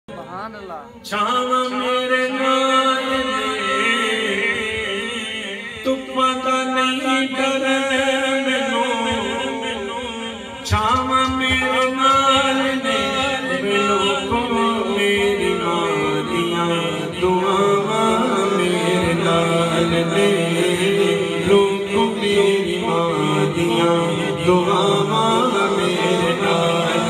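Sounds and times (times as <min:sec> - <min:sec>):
man singing into a microphone: 0:00.9 - 0:27.0.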